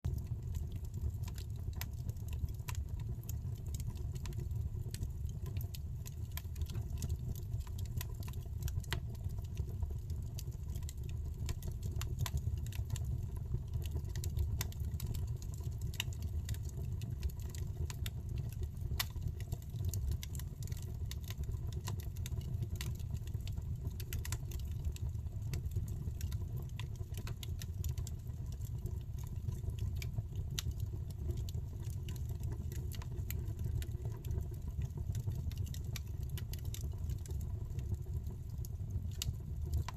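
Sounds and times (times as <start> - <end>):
low rumble of flame: 0.1 - 39.9
wood fire crackling and popping: 0.1 - 39.9.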